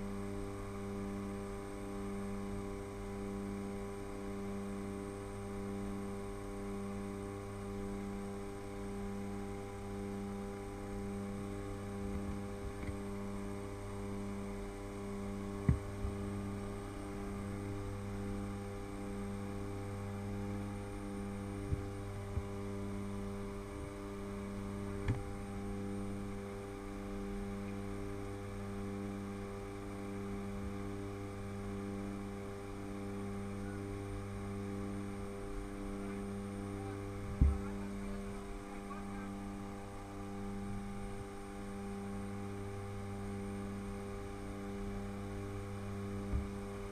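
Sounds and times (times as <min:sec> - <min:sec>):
plane engines droning in cabin: 0:00.0 - 0:46.9.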